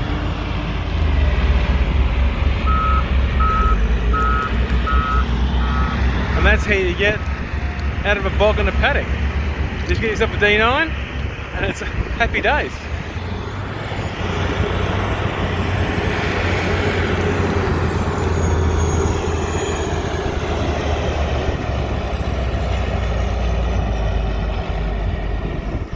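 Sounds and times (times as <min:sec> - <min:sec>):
heavy diesel engine rumble: 0:00.0 - 0:25.9.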